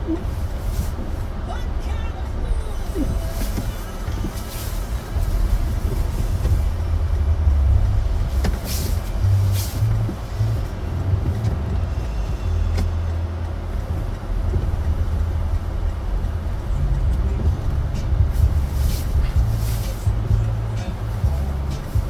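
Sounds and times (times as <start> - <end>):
vehicle rumbling on snowy road: 0.0 - 22.0.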